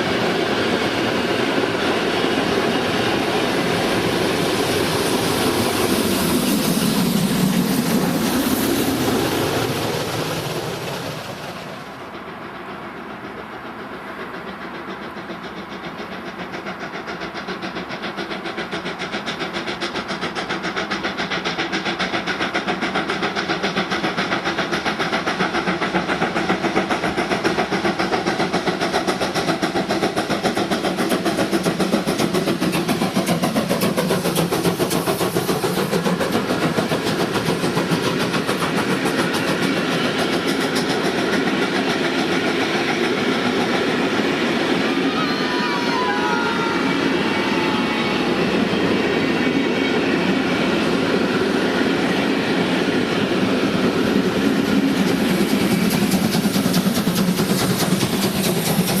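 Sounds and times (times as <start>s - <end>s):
train running past: 0.0s - 59.0s.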